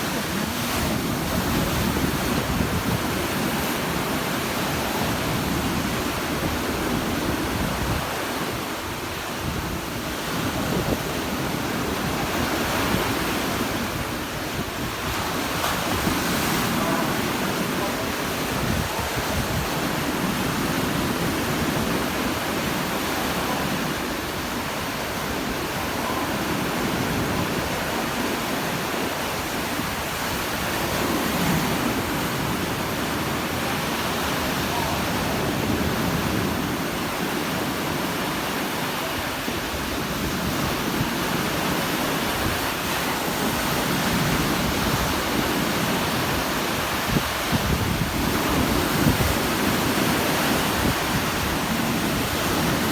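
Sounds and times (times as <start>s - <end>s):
sea waves washing onto shore: 0.0s - 52.9s.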